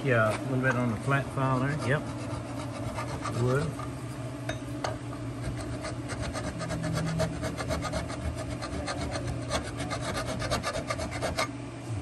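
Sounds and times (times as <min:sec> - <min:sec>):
hand file rasping on metal: 0:00.1 - 0:03.8, 0:05.4 - 0:11.5.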